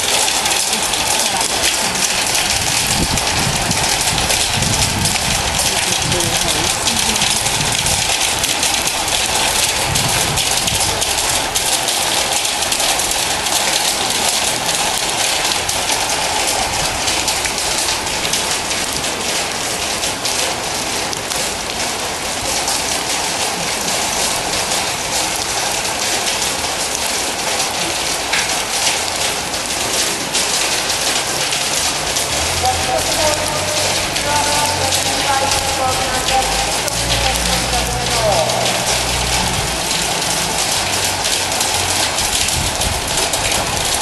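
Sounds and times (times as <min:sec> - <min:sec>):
rain on a metal roof: 0:00.0 - 0:44.0.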